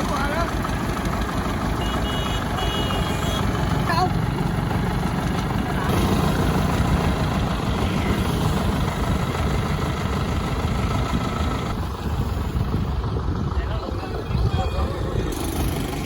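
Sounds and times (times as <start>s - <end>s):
engine running with low rumble: 0.0s - 16.0s.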